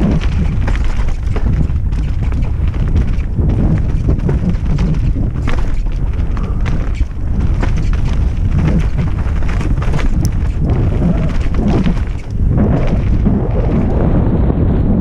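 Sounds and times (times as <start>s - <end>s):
tyres rattling over dirt trail: 0.0s - 14.3s
wind buffeting camera: 0.0s - 15.0s.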